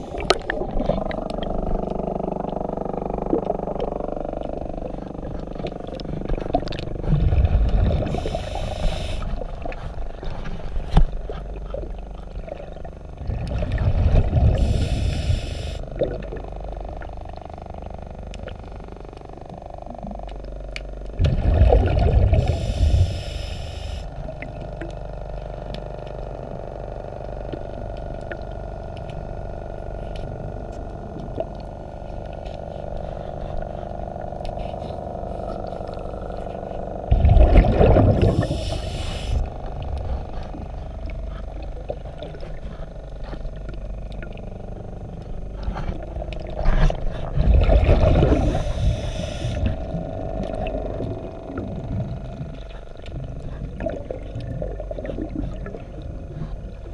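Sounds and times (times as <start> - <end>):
exhaled bubbles gurgling underwater: 0.0 - 56.9
steady low hum: 0.0 - 56.9.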